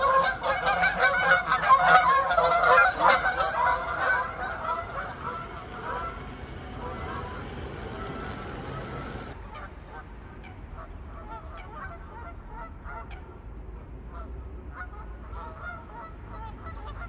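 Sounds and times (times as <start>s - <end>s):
geese honking: 0.0s - 13.4s, 14.1s - 17.0s
low steady rumble: 0.0s - 17.0s.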